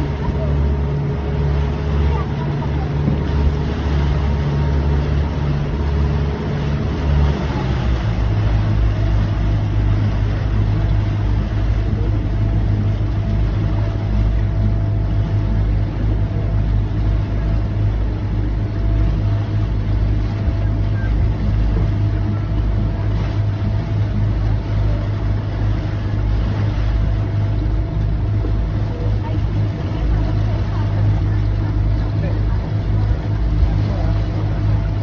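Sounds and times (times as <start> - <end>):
boat engine running: 0.0 - 35.0
water rushing in wake: 0.0 - 35.0.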